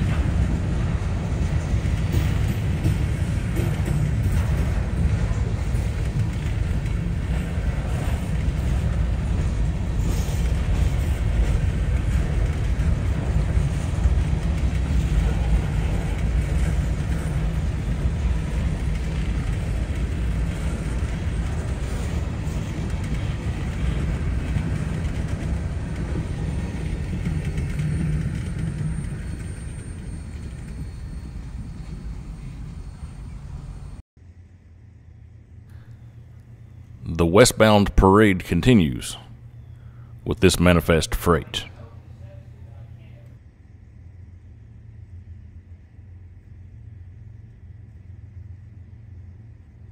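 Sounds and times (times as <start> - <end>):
freight train rumbling: 0.0 - 49.9.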